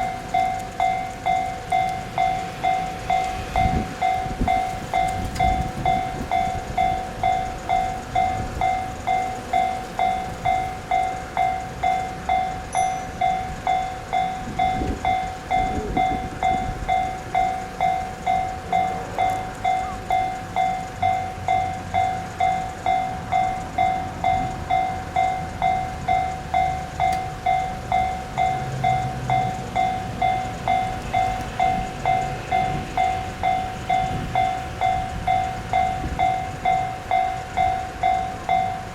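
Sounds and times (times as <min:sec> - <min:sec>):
level-crossing warning bell: 0:00.0 - 0:38.9.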